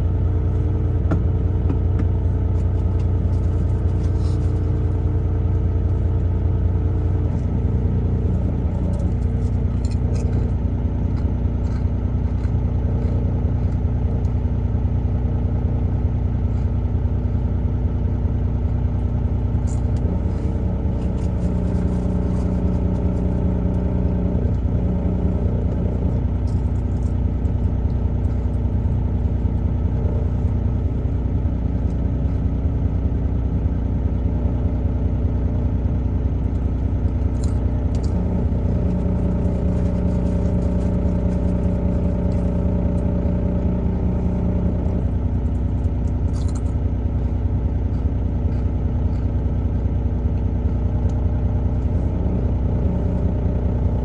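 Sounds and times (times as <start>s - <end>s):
engine hum: 0.0s - 54.0s
truck engine and road rumble: 0.0s - 54.0s.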